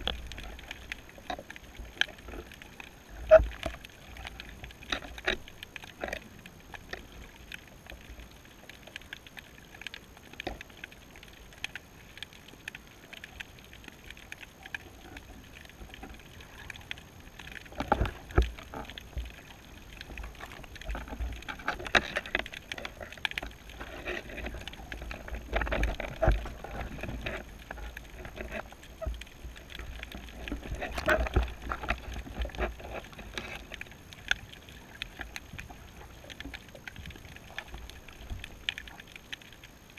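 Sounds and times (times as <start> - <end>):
underwater clicks and knocks: 0.0 - 39.9.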